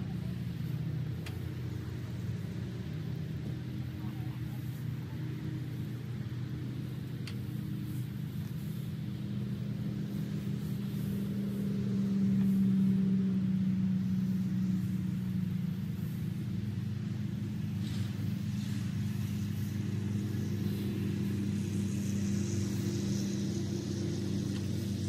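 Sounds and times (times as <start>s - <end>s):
dry hay crackling: 0.0s - 25.0s
engine humming: 0.0s - 25.0s.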